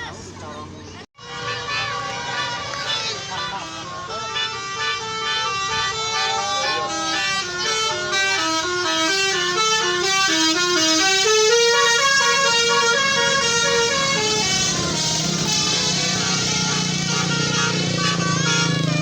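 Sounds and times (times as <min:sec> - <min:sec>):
bus musical horn melody: 0:01.2 - 0:19.0.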